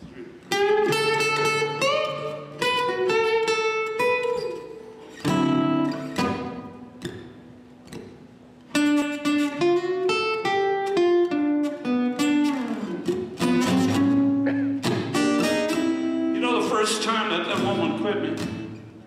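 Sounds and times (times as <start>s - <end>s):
acoustic guitar blues: 0.0s - 19.0s.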